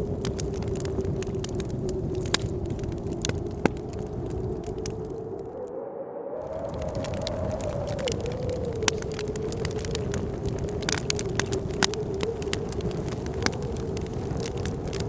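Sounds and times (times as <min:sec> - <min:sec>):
wood fire crackling and popping: 0:00.0 - 0:05.6, 0:06.4 - 0:15.0
howling blizzard wind: 0:00.0 - 0:15.0.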